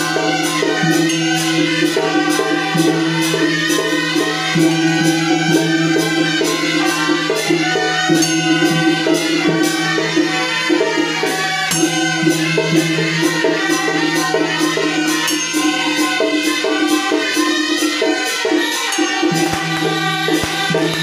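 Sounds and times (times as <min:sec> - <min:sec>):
jingling rattling percussion: 0:00.0 - 0:21.0.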